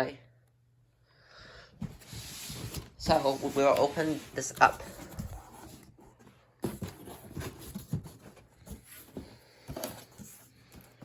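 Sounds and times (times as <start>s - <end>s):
cardboard box being opened: 1.8s - 11.0s.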